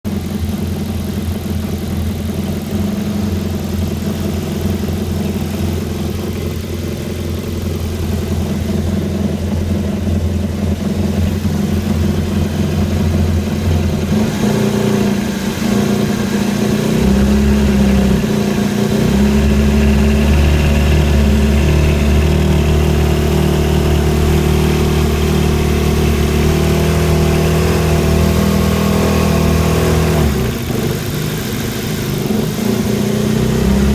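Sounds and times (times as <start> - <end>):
personal watercraft engine running: 5.0 - 33.9.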